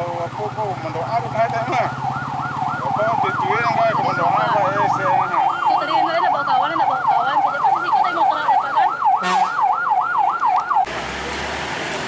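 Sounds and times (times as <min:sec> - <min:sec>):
electronic siren yelping: 0:00.1 - 0:10.9.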